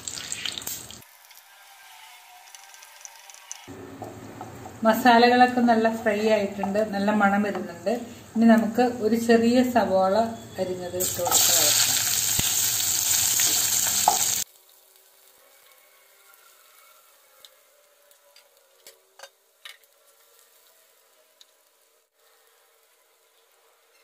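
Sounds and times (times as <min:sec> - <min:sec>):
onion sizzling in a pan: 0:00.0 - 0:09.4, 0:11.0 - 0:22.9.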